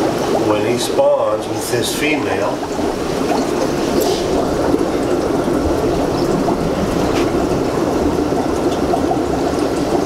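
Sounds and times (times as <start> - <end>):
aquarium water trickling: 0.0 - 10.0.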